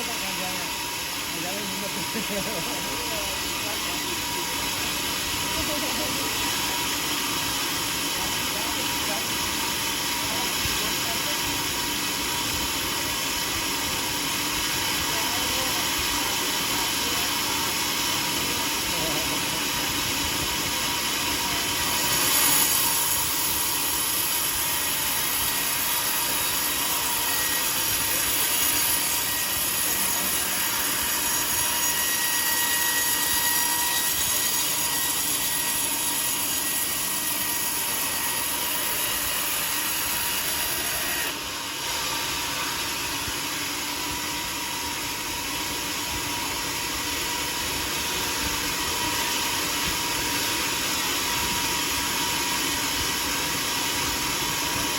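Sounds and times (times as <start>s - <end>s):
constant high whine: 0.0s - 54.9s
sawmill running: 0.0s - 54.9s.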